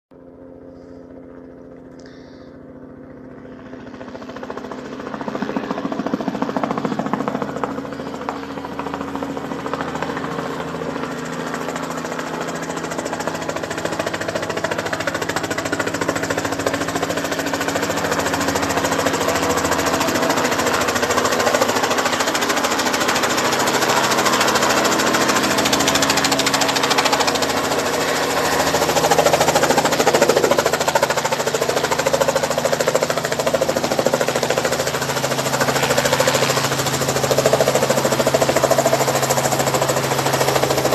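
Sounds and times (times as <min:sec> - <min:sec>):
helicopter engine hum: 0:00.1 - 0:40.9
helicopter rotor beat: 0:00.1 - 0:40.9.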